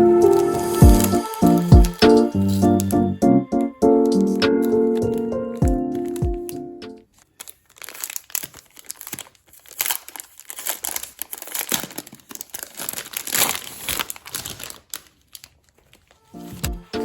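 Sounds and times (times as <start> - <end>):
packaging crinkling: 0.0 - 3.0, 3.6 - 17.0.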